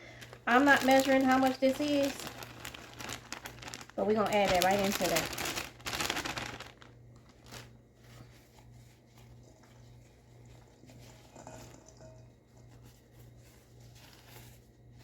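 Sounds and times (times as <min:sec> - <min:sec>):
soft handling sounds: 0:00.1 - 0:15.0.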